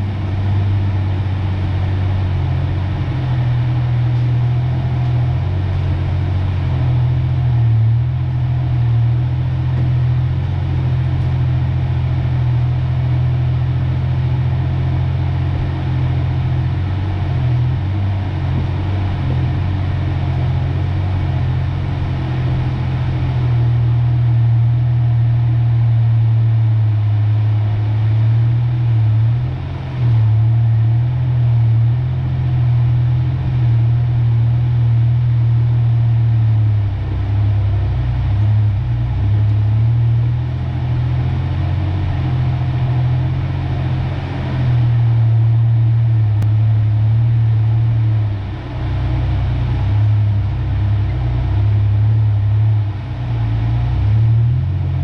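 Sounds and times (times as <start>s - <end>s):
pickup engine running: 0.0s - 55.0s.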